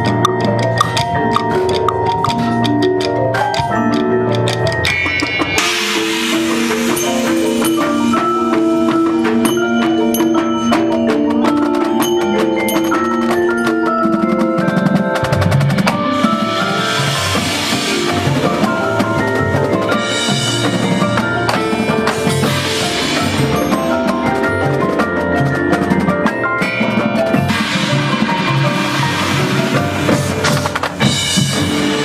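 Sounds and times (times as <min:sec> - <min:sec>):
heavy low drums: 0:00.0 - 0:32.0
held chords: 0:00.0 - 0:32.0
rapid marimba and xylophone strikes: 0:00.0 - 0:32.0.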